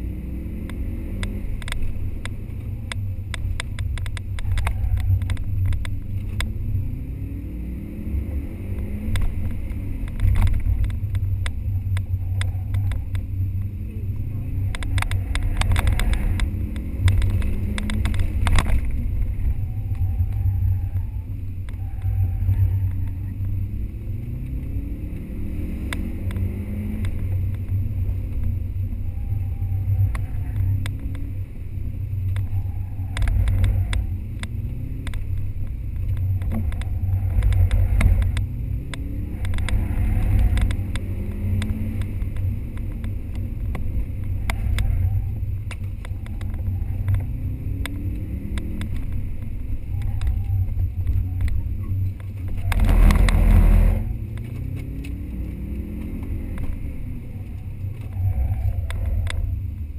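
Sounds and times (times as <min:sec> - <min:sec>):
car engine revving: 0:00.0 - 0:59.9
low road and cabin rumble: 0:00.0 - 0:59.9.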